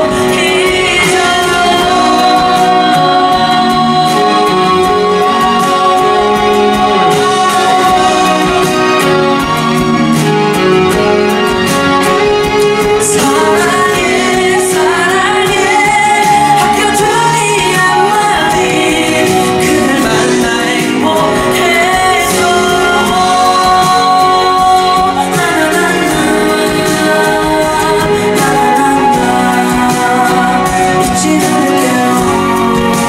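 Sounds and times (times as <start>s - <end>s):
man singing into microphone: 0.0s - 10.3s, 12.4s - 33.0s
instrumental backing music: 0.0s - 33.0s.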